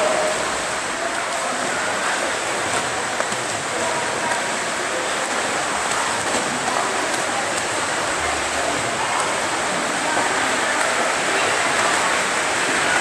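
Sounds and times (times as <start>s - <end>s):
swimmers splashing in pool water: 0.0s - 13.0s.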